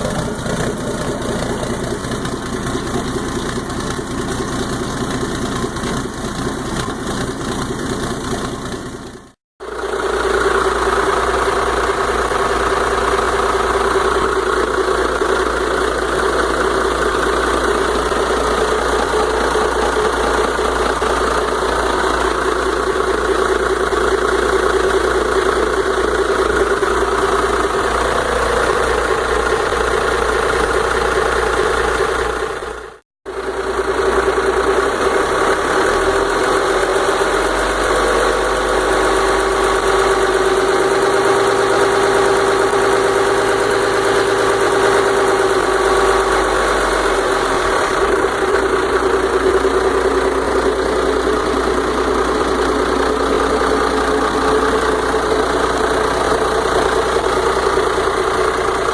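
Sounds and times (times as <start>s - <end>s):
diesel boat engine idling: 0.0s - 58.9s.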